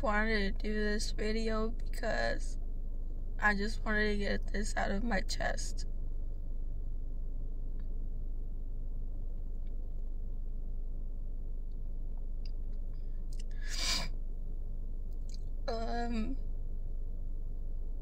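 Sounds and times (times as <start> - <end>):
low hum inside car: 0.0 - 18.0.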